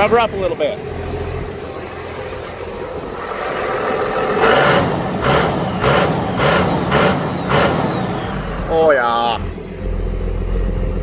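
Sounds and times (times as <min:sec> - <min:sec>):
diesel engine idling and revving: 0:00.0 - 0:11.0.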